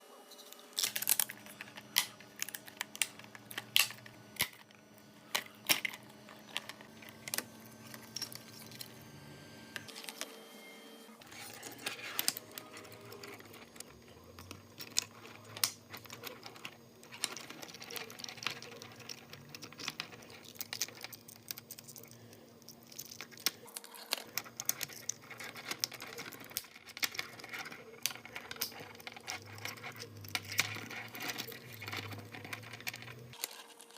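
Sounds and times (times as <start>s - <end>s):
steady hum: 0.1s - 33.4s
clicks and clatter of small parts: 0.4s - 9.0s, 11.2s - 33.9s.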